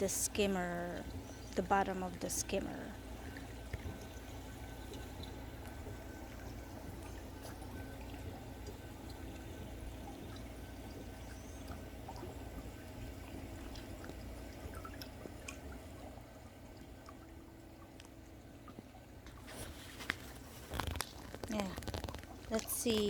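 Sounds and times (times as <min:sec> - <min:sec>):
water trickling into pool skimmer: 0:00.0 - 0:23.0.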